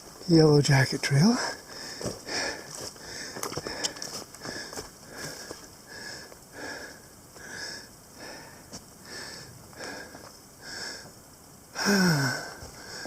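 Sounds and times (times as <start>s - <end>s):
person breathing hard: 1.4s - 13.0s.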